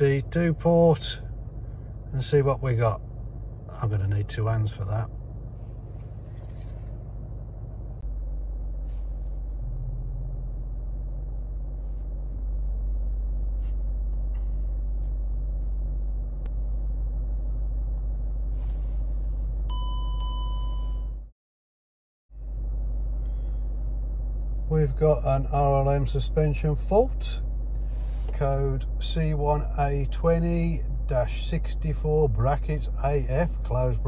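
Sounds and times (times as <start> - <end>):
diesel engine idling: 0.0 - 19.9, 22.4 - 34.0.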